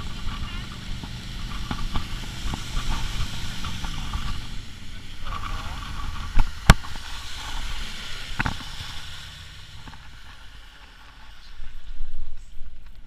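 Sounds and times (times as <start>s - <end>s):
speedboat water and wind rush: 0.0s - 13.0s.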